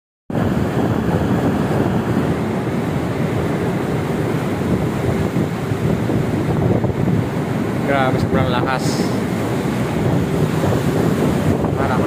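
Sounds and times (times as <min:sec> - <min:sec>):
rush of the sea: 0:00.3 - 0:12.0
wind buffeting microphone: 0:00.3 - 0:12.0.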